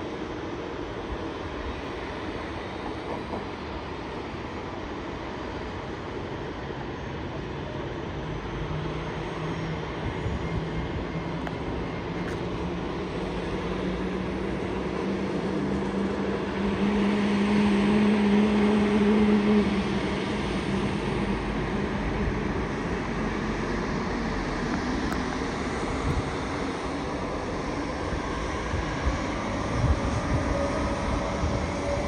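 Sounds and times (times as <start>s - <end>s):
jet airliner engines running: 0.0s - 32.0s.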